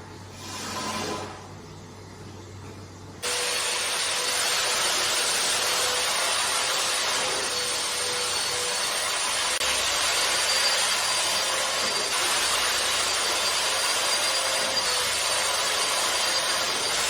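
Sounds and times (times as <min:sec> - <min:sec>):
carpet-cleaning machine running: 0:03.2 - 0:17.0.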